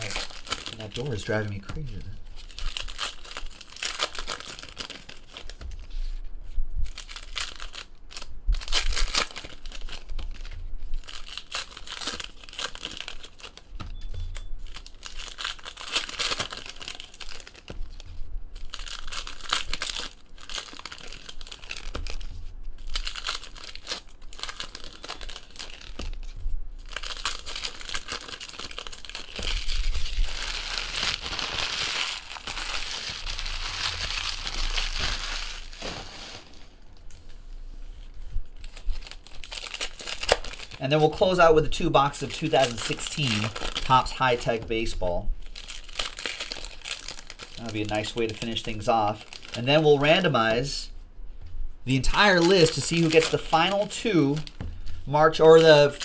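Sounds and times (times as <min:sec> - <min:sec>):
wrappers crinkling: 0:00.0 - 0:06.2, 0:06.8 - 0:50.9, 0:51.9 - 0:56.0.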